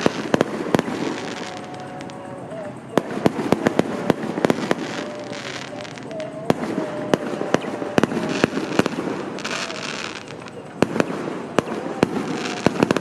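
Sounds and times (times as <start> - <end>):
firecrackers crackling: 0.0 - 13.0
firework bangs: 0.0 - 13.0.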